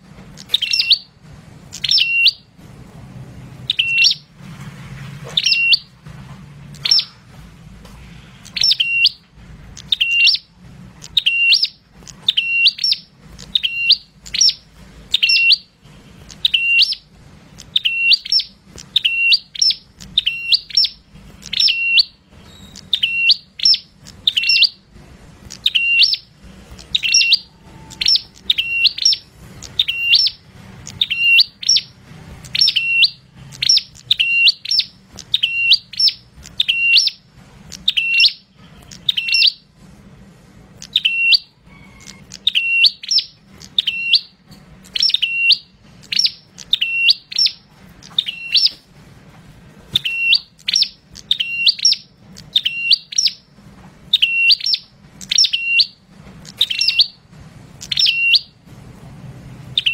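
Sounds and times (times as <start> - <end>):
songbird calling: 0.0 - 2.5, 3.7 - 4.3, 5.3 - 5.9, 6.7 - 7.2, 8.4 - 24.9, 25.5 - 39.6, 40.8 - 48.8, 49.9 - 53.5, 54.1 - 57.2, 57.8 - 58.6.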